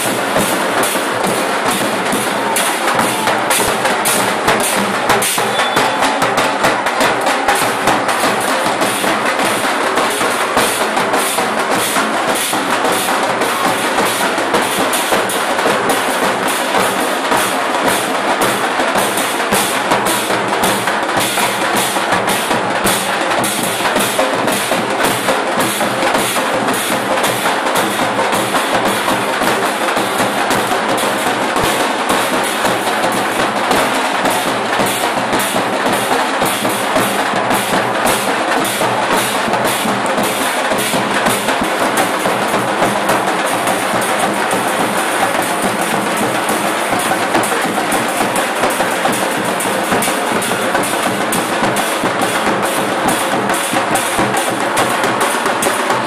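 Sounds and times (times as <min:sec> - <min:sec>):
group of drums playing: 0:00.0 - 0:56.0.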